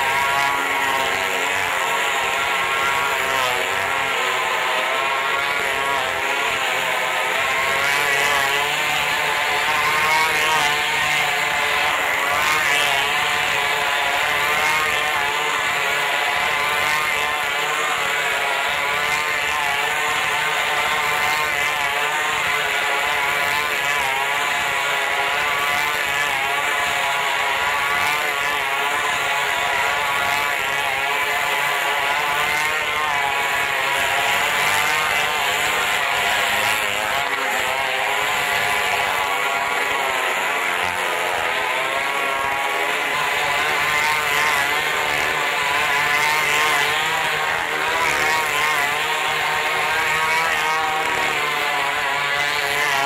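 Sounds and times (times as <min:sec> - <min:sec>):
small motorcycle engines: 0:00.0 - 0:53.0.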